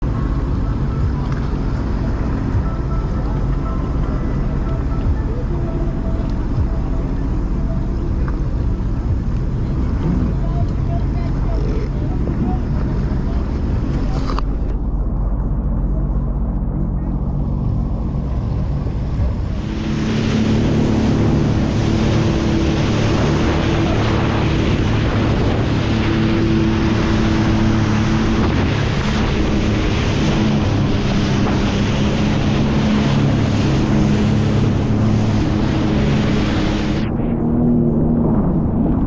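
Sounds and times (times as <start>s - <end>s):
jet ski engine running: 0.0s - 39.0s
rushing water: 0.0s - 39.0s
wind on microphone: 0.0s - 39.0s.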